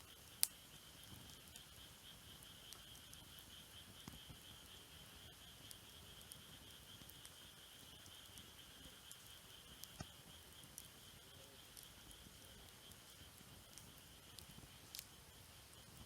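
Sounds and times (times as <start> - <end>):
campfire crackling and popping: 0.0 - 16.0
high insect trill: 0.0 - 16.0.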